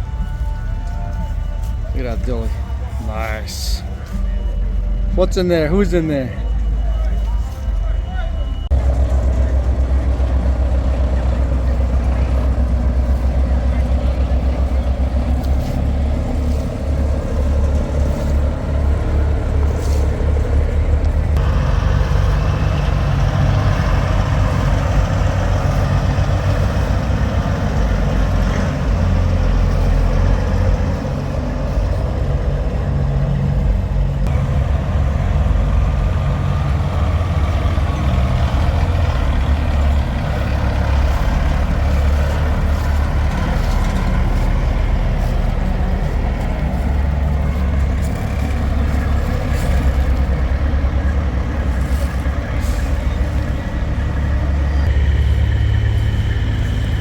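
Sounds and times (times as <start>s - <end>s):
diesel truck engine rumble: 0.0s - 57.0s.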